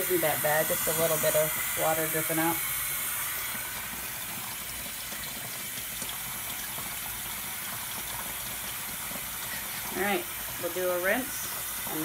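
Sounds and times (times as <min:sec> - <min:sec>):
water running into a tub: 0:00.0 - 0:12.0.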